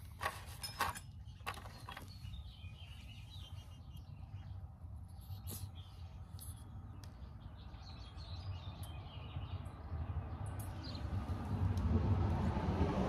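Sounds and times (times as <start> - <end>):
songbird chirping: 0.6 - 11.8.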